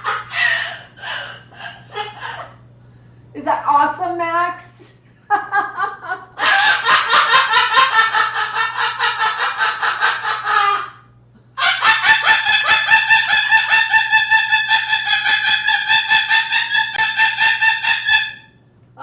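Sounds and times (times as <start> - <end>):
parrot cackling: 0.0 - 2.6, 5.9 - 18.6.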